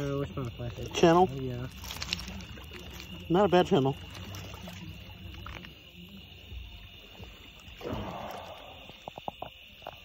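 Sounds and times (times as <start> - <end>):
night insects droning: 0.0 - 10.0.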